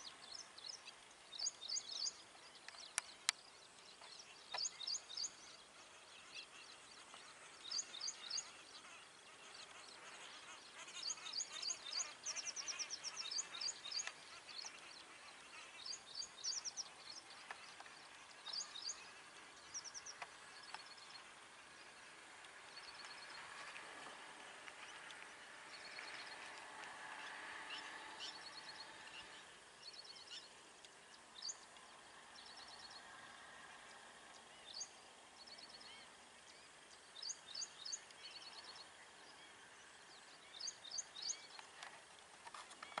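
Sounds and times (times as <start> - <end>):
small birds calling: 0.0 - 43.0
soft background hiss: 0.0 - 43.0.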